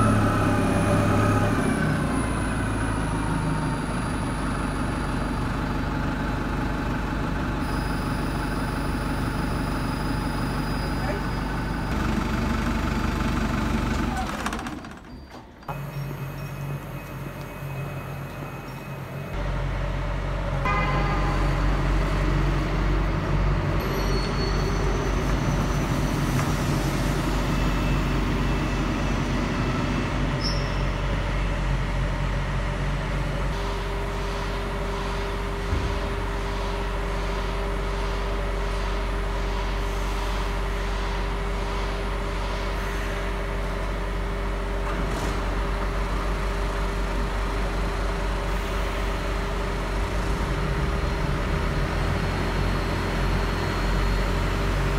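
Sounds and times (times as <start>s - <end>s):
low bus hum: 0.0s - 54.9s.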